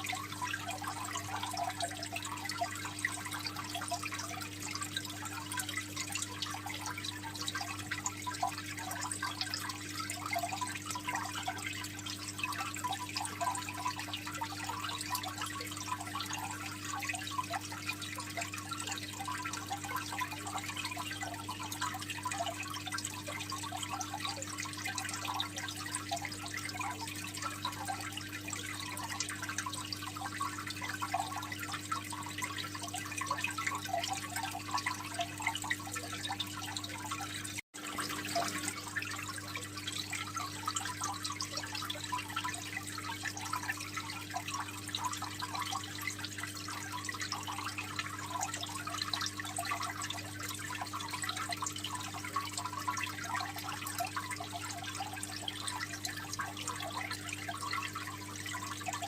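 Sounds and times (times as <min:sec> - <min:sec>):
aquarium water trickling: 0:00.0 - 0:59.0.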